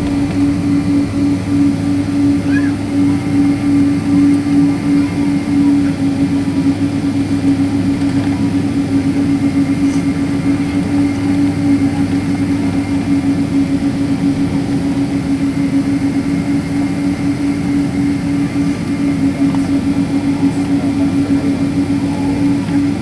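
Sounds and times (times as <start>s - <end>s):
airliner cabin engine drone: 0.0s - 23.0s.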